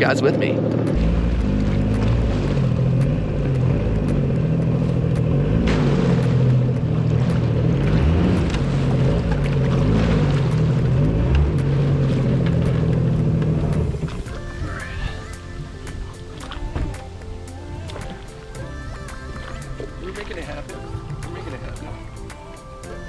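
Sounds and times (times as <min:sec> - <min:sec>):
jet ski engine revving: 0:00.3 - 0:22.4.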